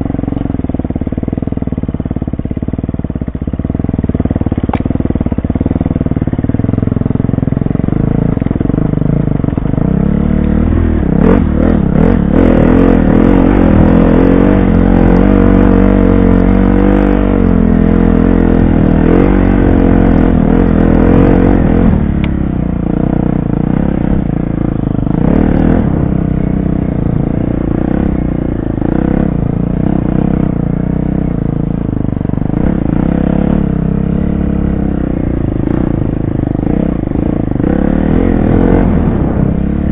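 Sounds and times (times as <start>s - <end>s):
dirt bike engine revving: 3.6s - 39.9s.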